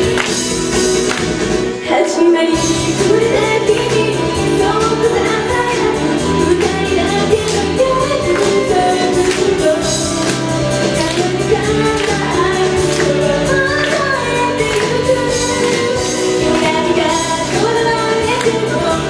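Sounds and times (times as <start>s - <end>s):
backing music with steady beat: 0.0s - 19.0s
woman singing into a microphone: 1.8s - 19.0s.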